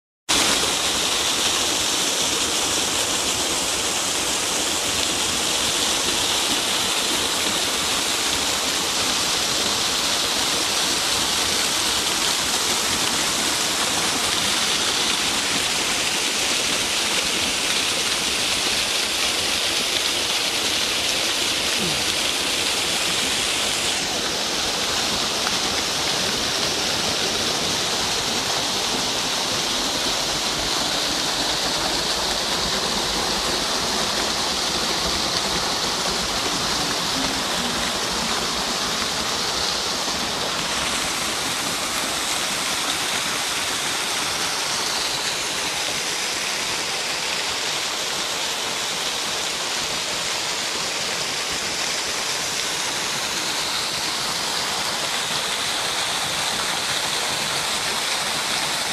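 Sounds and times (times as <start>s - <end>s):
small waterfall splashing: 0.3s - 58.9s.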